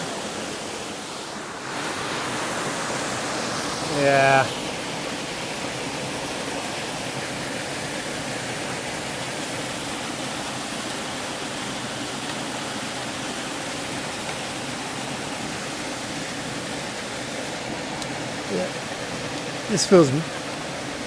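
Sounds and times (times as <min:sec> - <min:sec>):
waterfall and creek rushing: 0:00.0 - 0:21.0.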